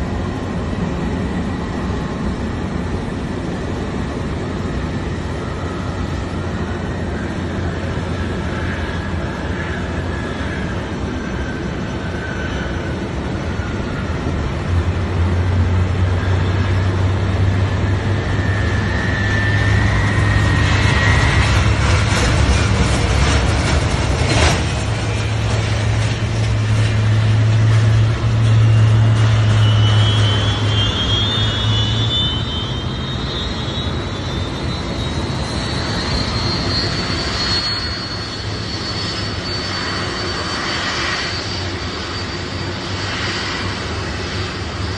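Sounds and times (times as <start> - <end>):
deep jet engine drone: 0.0 - 44.9
jet engine whine: 0.0 - 44.9.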